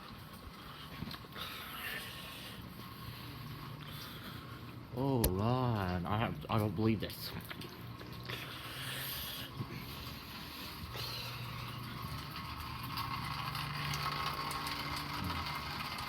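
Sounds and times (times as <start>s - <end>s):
motor humming with whine: 0.0s - 16.0s.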